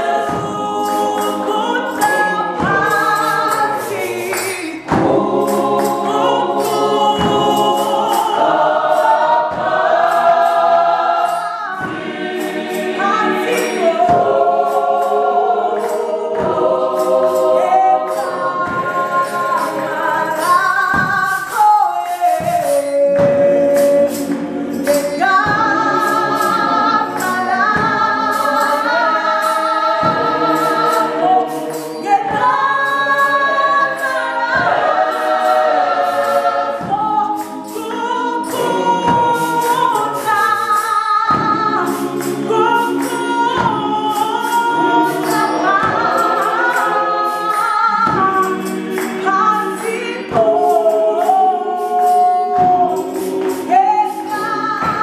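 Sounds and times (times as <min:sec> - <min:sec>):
hand claps: 0:00.0 - 0:10.3, 0:15.1 - 0:55.0
gospel choir singing a cappella: 0:00.0 - 0:55.0.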